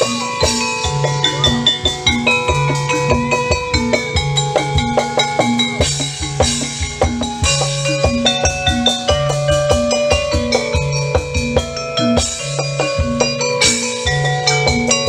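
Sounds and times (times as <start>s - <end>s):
electronic pop music: 0.0s - 15.0s.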